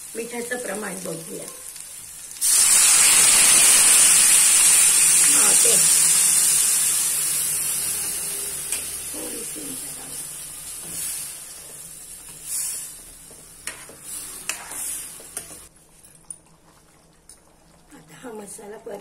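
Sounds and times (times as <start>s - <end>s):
sauce sizzling in a pan: 0.0s - 15.7s.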